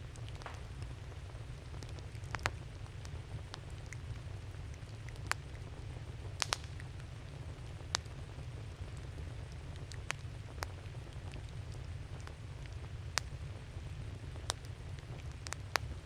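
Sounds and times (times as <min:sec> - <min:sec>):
sharp pops of burning wood: 0:00.0 - 0:13.6, 0:14.3 - 0:16.0
campfire crackling: 0:00.0 - 0:16.0
steady low rumble: 0:00.0 - 0:16.0.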